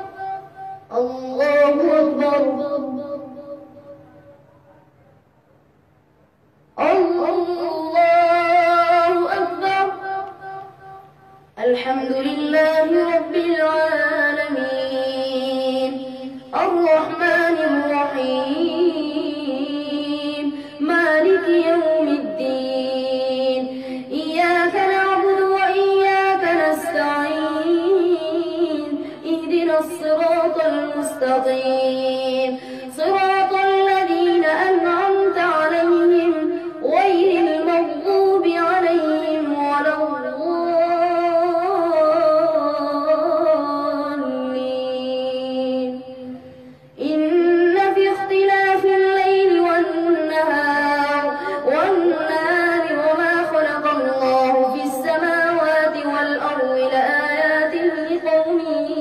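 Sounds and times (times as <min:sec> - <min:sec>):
boy chanting melodic recitation: 0:00.0 - 0:04.8, 0:06.7 - 0:59.0.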